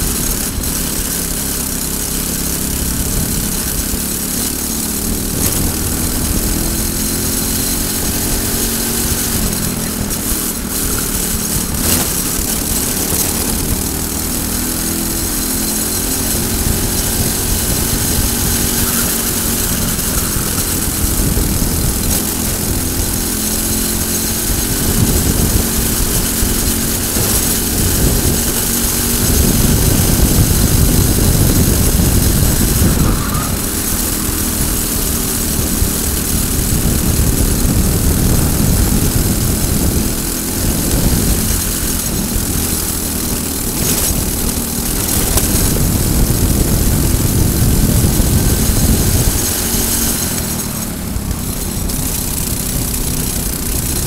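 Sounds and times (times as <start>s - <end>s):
kart engine running hard: 0.0s - 54.0s
wind rushing over microphone: 5.0s - 54.0s.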